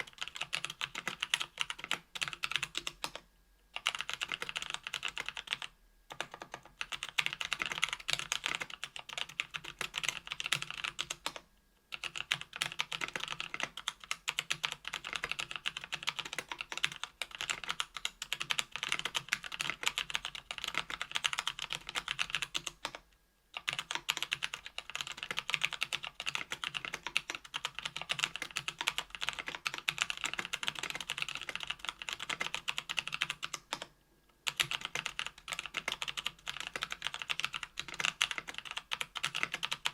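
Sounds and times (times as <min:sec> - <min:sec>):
mechanical keyboard typing: 0:00.0 - 0:23.0, 0:23.6 - 0:39.9.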